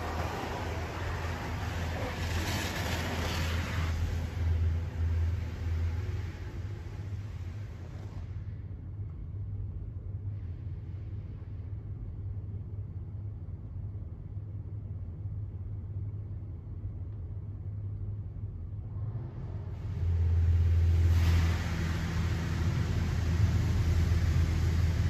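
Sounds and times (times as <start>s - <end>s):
car wash rumble heard from inside car: 0.0s - 25.0s.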